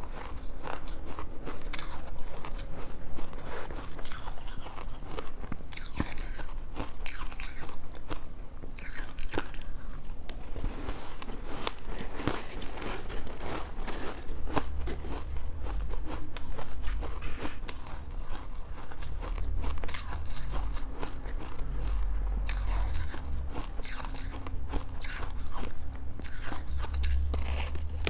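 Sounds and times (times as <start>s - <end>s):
biting and crunching ice: 0.1s - 7.7s, 11.6s - 28.0s.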